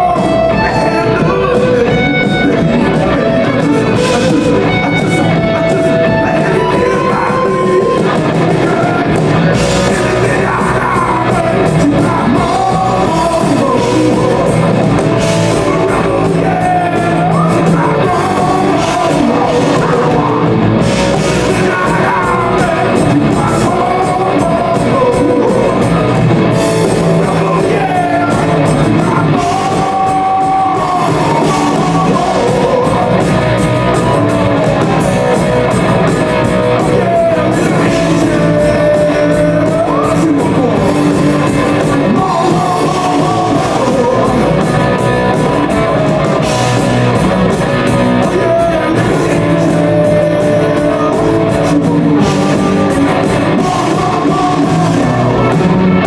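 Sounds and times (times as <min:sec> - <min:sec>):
rock music with singing: 0:00.0 - 0:56.0.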